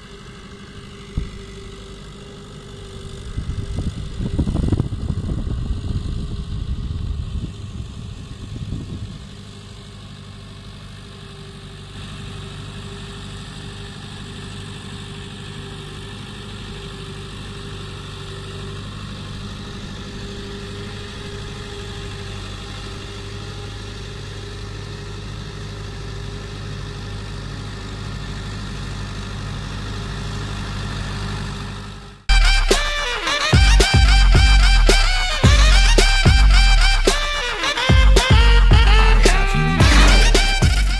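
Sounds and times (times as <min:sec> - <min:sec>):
tractor diesel engine droning: 0:00.0 - 0:40.9.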